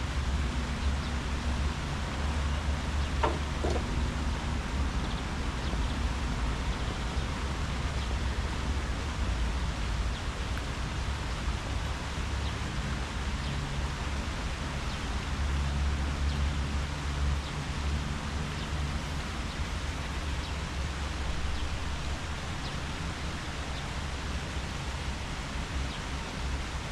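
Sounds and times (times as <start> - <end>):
low wind rumble: 0.0 - 26.9
wind rustling tree leaves: 0.0 - 26.9.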